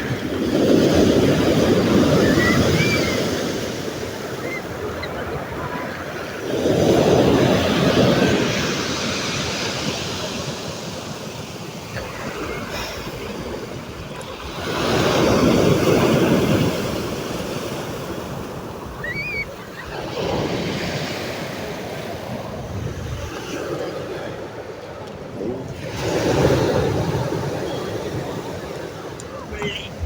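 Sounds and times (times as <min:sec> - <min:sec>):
storm waves crashing on beach: 0:00.0 - 0:30.0
surf washing: 0:00.0 - 0:30.0.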